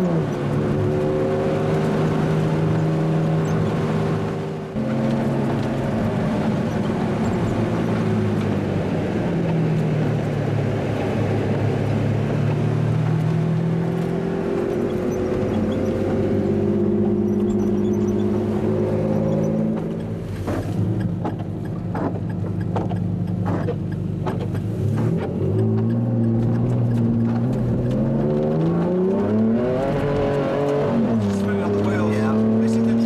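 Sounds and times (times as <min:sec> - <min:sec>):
car engine from inside cabin: 0:00.0 - 0:33.0
exhaust crackles: 0:00.0 - 0:33.0.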